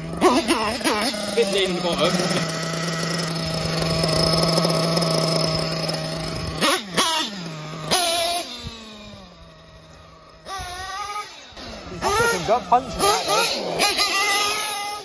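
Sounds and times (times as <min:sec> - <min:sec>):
nitro engine revving: 0:00.0 - 0:15.0.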